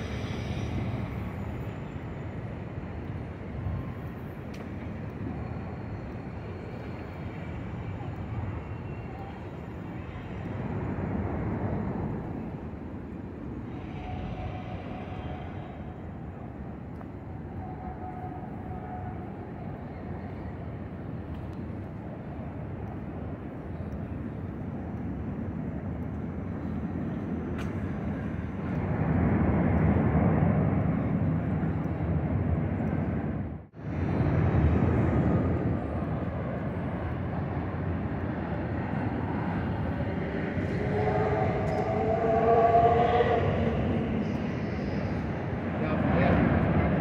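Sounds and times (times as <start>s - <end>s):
distant city traffic rumble: 0.0s - 47.0s.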